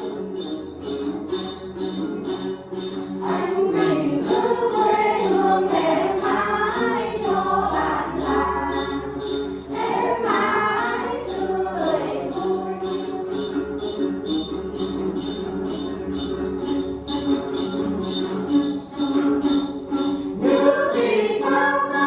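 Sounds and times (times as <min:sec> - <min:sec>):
jingling beat: 0:00.0 - 0:22.0
song with voices: 0:00.0 - 0:22.0.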